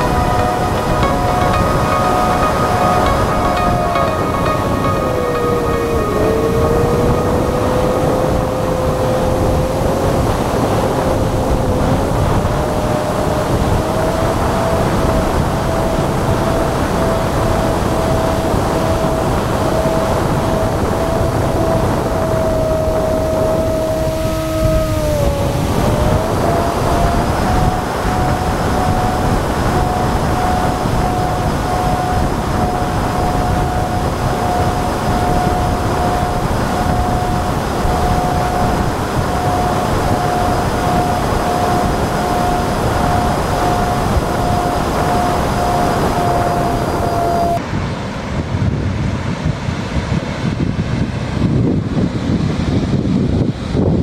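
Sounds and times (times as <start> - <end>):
electric motors whining: 0.0 - 47.6
wind rush on microphone: 0.0 - 54.0.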